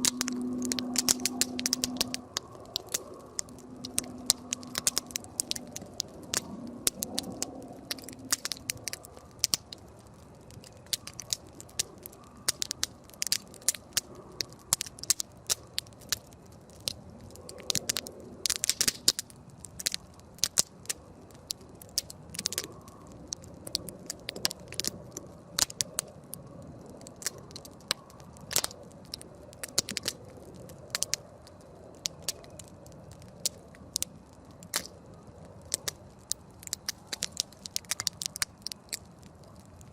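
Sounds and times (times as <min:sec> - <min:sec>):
campfire crackling and popping: 0:00.0 - 0:39.9
hiss of burning: 0:00.0 - 0:39.9.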